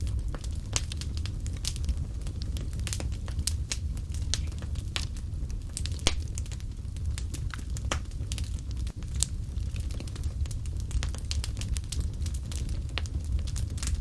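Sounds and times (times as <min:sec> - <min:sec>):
fireplace fire crackling: 0:00.0 - 0:14.0
low rumble of flames: 0:00.0 - 0:14.0.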